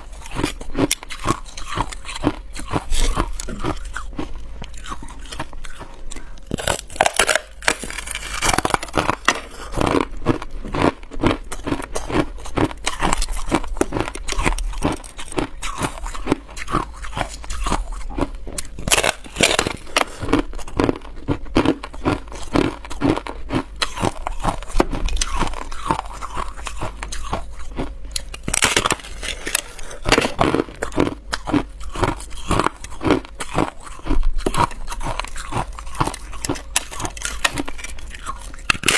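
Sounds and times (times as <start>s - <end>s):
person crunching ice: 0.0s - 38.9s.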